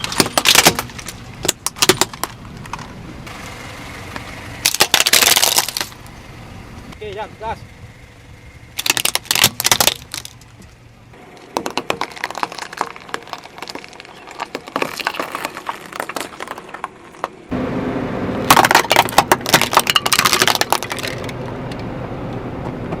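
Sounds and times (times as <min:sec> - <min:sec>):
objects crackling under car tyre: 0:00.0 - 0:07.3, 0:08.7 - 0:17.6, 0:18.3 - 0:21.9.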